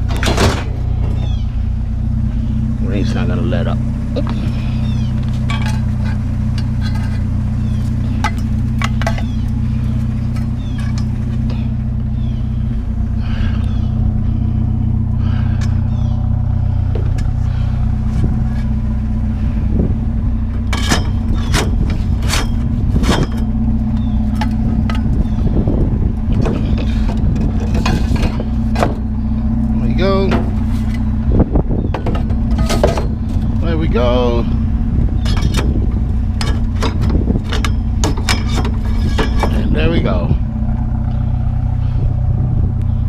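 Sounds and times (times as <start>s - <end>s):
scrap metal clanking: 0.0s - 3.2s, 4.2s - 12.0s, 14.9s - 25.5s, 26.2s - 42.0s
truck engine idling: 0.0s - 43.0s.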